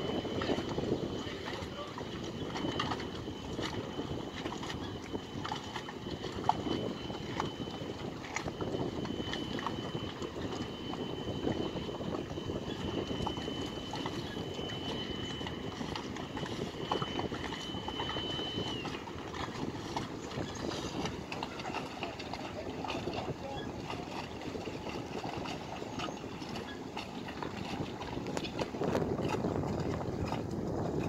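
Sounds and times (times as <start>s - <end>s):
low rumble of wind and water: 0.0s - 31.0s.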